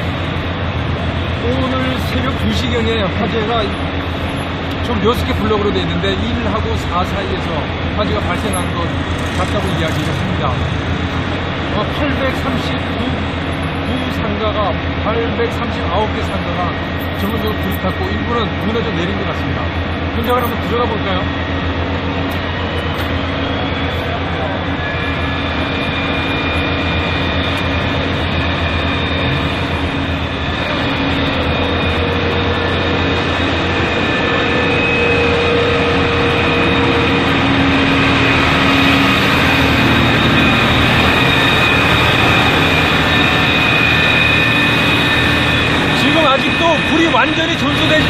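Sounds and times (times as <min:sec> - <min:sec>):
engine and pump drone: 0:00.0 - 0:48.0.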